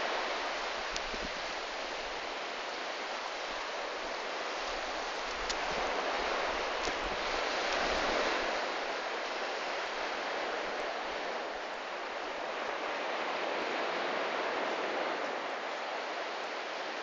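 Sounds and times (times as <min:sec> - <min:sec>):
sea surf washing on beach: 0:00.0 - 0:17.0.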